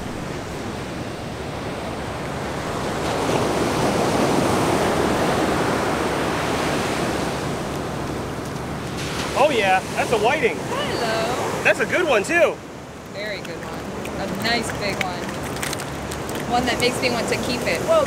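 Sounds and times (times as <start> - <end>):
ocean surf washing up beach: 0.0 - 18.0.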